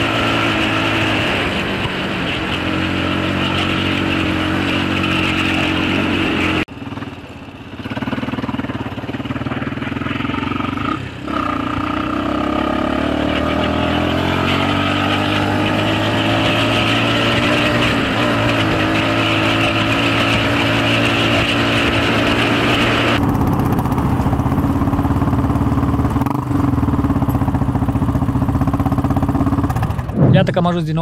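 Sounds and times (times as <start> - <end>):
atv engine running: 0.0 - 30.4.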